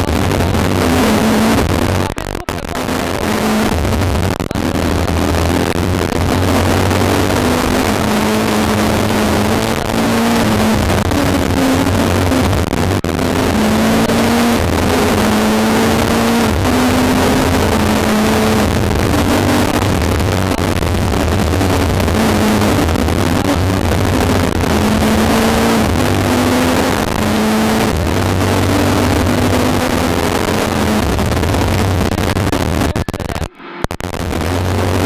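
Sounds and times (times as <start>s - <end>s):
road and wind noise: 0.0s - 33.0s
rally car engine revving: 0.0s - 35.0s.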